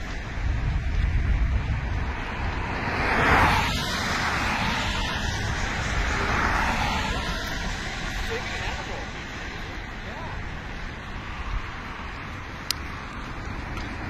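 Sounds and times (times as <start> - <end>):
vehicles passing on highway: 0.0 - 14.0
wind rumble: 0.0 - 14.0.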